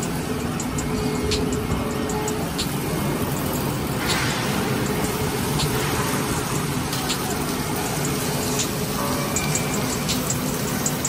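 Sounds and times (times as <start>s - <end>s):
grinding machine low hum: 0.0s - 11.0s.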